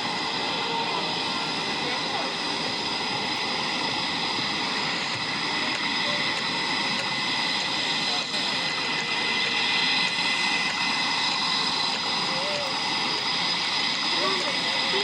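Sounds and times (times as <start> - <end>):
crowd chatter: 0.0 - 15.0
jet aircraft flying overhead: 0.0 - 15.0.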